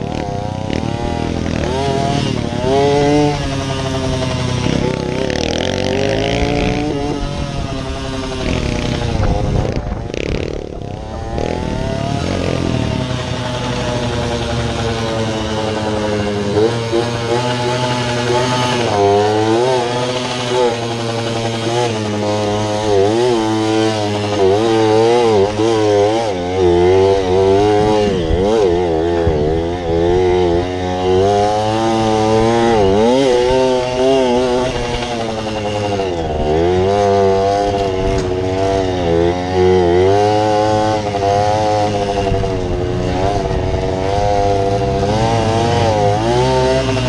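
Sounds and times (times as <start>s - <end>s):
small bike engine revving: 0.0s - 47.0s.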